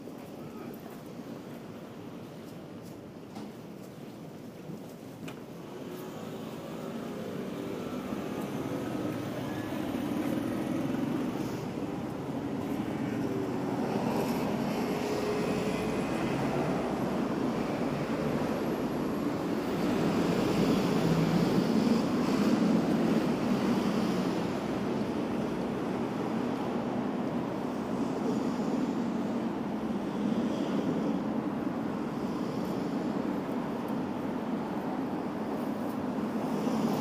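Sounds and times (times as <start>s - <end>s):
cars driving past: 5.6s - 37.0s.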